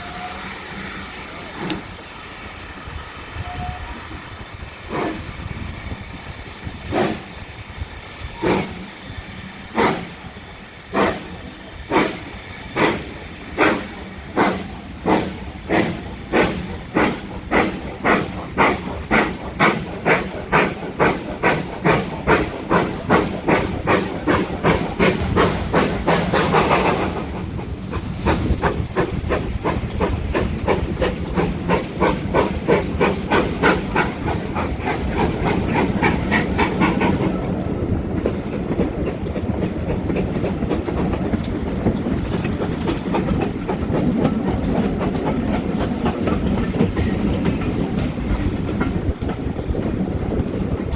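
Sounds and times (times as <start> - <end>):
steam locomotive exhaust beats: 0.0 - 50.9
train rolling on rails: 0.0 - 50.9.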